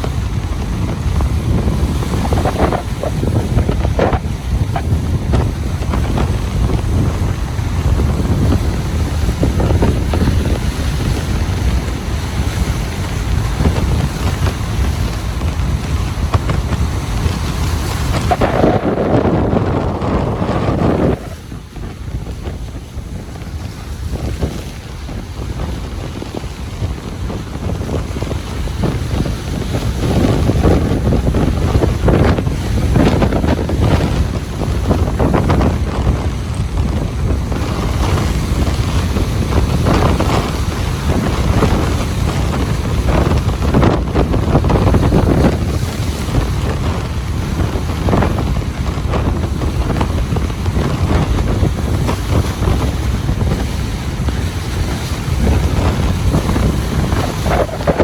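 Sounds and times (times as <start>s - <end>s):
ocean surf on beach: 0.0s - 58.0s
wind buffeting microphone: 0.0s - 58.0s.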